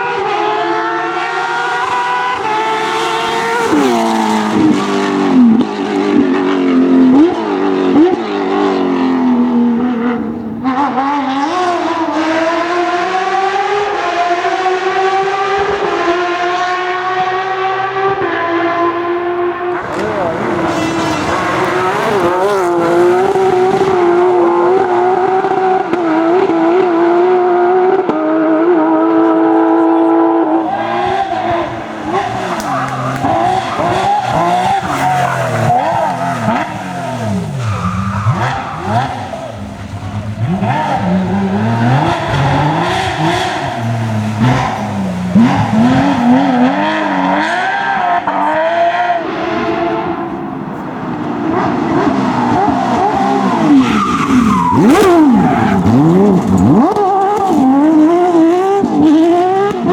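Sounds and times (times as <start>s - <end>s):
racing car engines at high revs: 0.0s - 59.9s.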